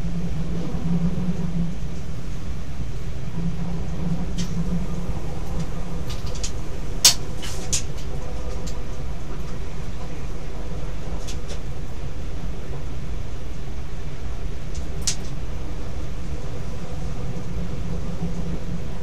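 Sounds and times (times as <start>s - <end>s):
electric train low rumble: 0.0s - 19.0s.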